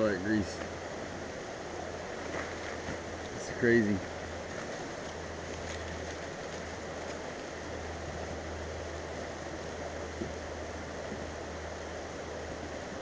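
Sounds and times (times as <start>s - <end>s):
low hum: 0.0s - 13.0s
steady rushing noise: 0.0s - 13.0s.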